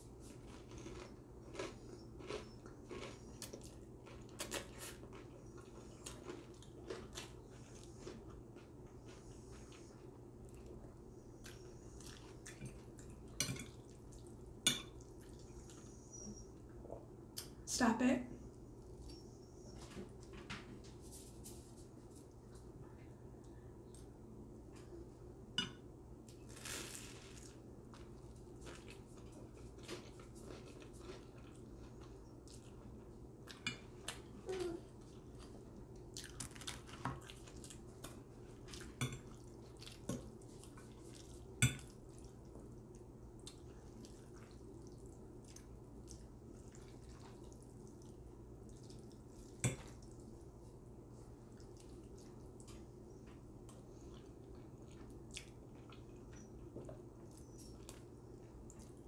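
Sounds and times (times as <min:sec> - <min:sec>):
chewing sounds: 0:00.2 - 0:17.6, 0:27.4 - 0:59.0.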